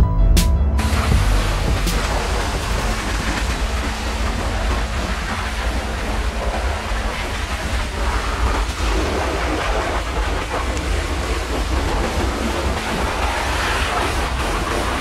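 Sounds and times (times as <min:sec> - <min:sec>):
truck-wash equipment rumbling: 0:00.7 - 0:15.0
water and foam rushing: 0:00.8 - 0:15.0.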